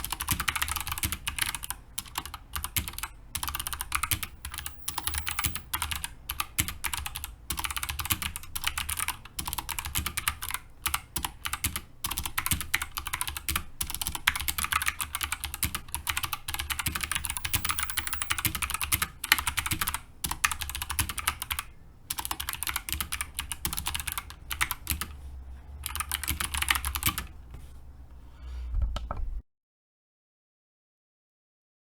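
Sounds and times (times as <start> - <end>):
mechanical keyboard clicking: 0.0 - 25.1, 25.8 - 27.3.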